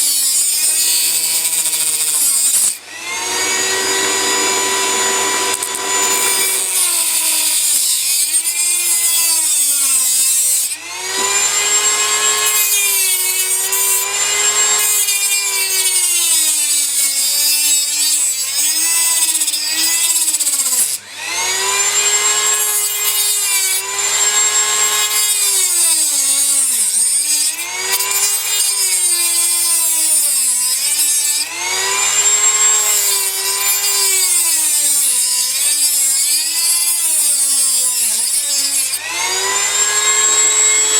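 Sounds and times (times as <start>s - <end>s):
rotary tool cutting metal: 0.0s - 40.9s.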